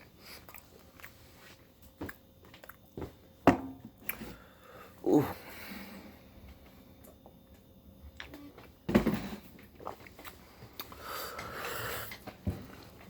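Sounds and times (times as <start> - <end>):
quiet eating noises: 0.0 - 3.4, 4.0 - 8.9, 9.5 - 13.0.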